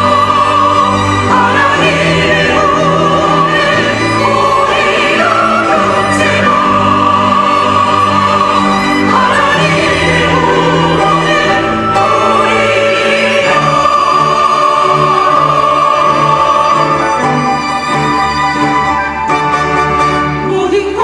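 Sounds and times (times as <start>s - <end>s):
choir singing: 0.0s - 21.0s
orchestral accompaniment: 0.0s - 21.0s.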